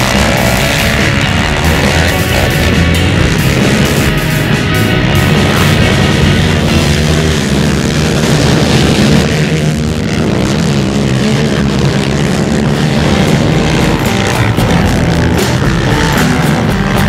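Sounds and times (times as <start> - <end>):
quad engines buzzing: 0.0 - 17.0.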